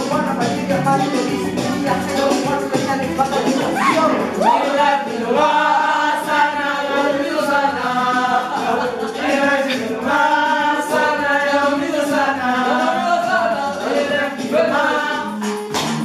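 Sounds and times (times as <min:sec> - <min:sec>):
group singing a cappella: 0:00.0 - 0:16.0.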